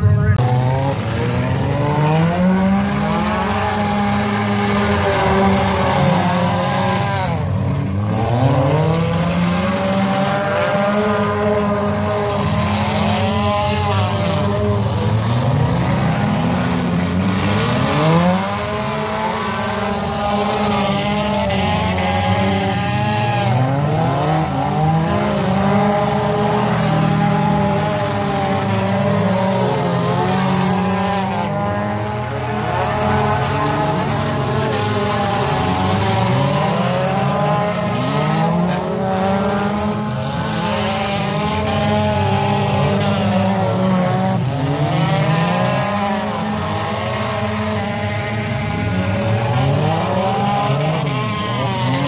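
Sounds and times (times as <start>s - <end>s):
race car engines: 0.0s - 52.0s.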